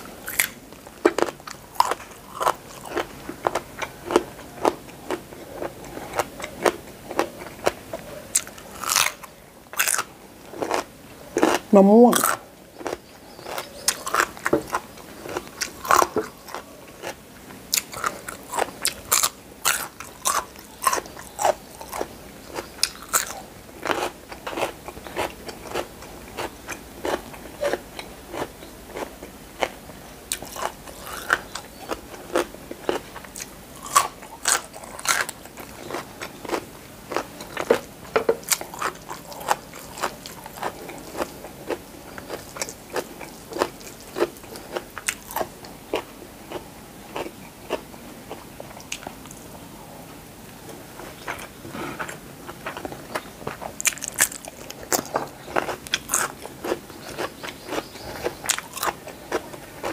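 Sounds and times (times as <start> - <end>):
crunching and chewing vegetables: 0.0 - 59.9.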